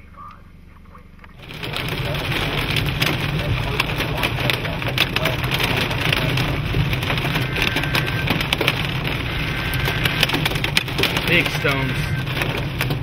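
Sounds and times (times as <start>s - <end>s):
car driving: 0.0s - 13.0s
hailstones hitting car roof: 1.4s - 13.0s
heavy rain: 1.4s - 13.0s.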